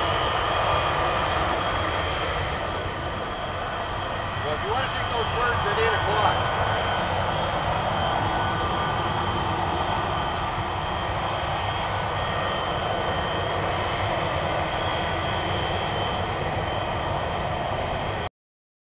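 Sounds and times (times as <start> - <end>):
jet engines running: 0.0 - 18.3.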